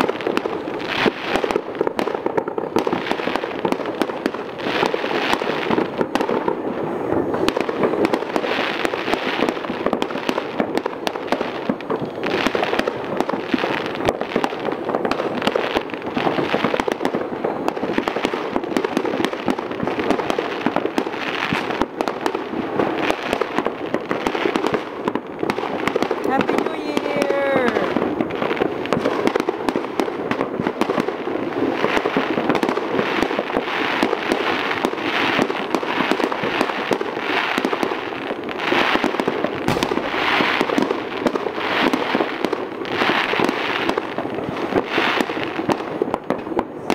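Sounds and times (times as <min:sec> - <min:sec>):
fireworks crackling: 0:00.0 - 0:46.9.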